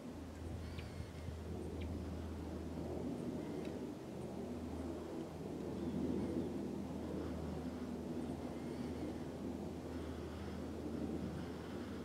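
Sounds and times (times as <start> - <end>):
faint even hum: 0.0 - 12.0
low background rumble: 0.0 - 12.0.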